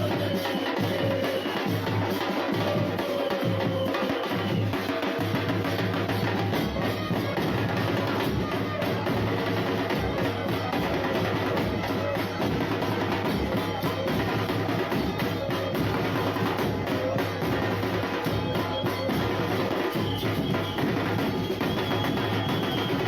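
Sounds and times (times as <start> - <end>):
drum band beating bass drums: 0.0 - 23.0.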